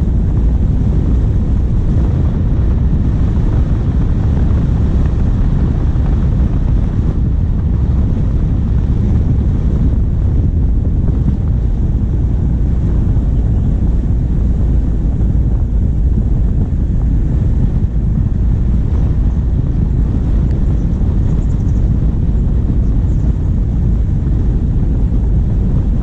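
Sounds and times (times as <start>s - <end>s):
diesel engine rumble: 0.0s - 26.0s
wind buffeting microphone: 0.0s - 26.0s.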